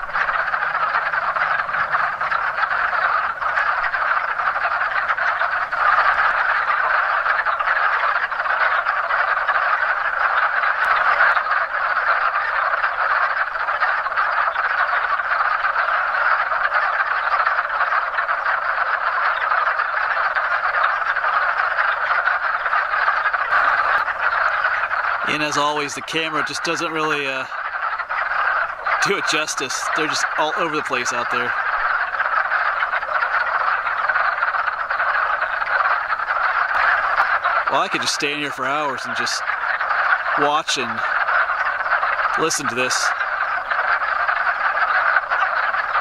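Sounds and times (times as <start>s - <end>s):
frogs calling in chorus: 0.0s - 46.0s.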